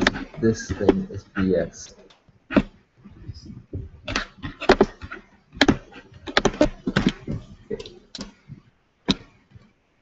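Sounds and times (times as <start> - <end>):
keyboard and mouse clicks: 0.0 - 9.8.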